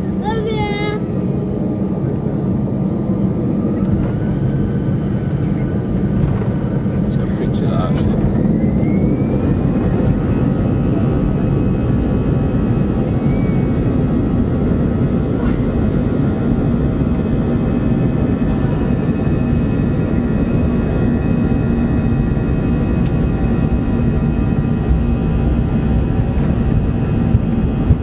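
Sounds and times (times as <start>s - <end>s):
jet engines roaring with whine: 0.0s - 28.0s.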